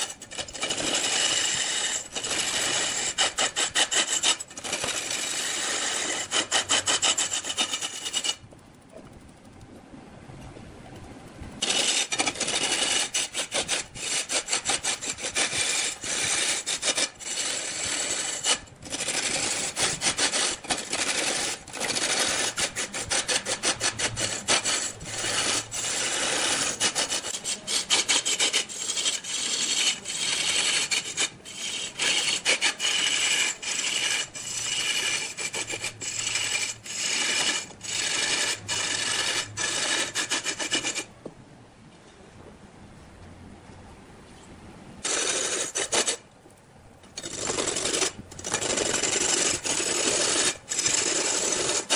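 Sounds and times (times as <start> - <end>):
lathe tool scraping wood: 0.0 - 8.4, 11.6 - 41.1, 45.0 - 46.2, 47.2 - 51.9.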